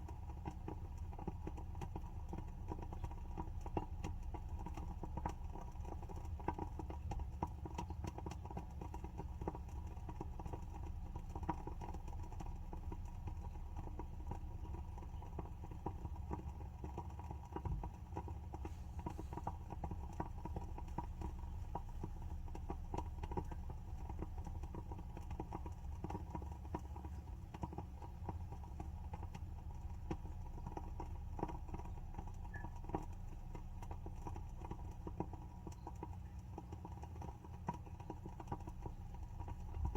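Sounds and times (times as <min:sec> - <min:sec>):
candle wick crackling: 0:00.1 - 0:39.9.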